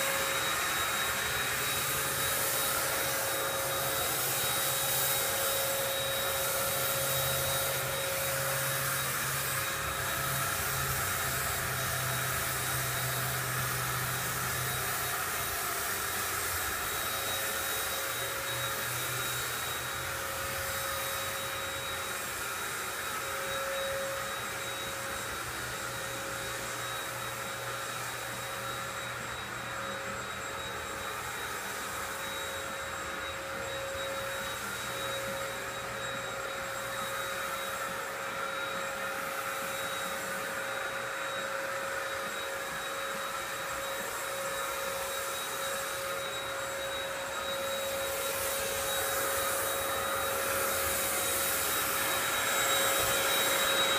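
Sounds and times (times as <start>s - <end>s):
paint sprayer turbine whining: 0.0s - 53.9s.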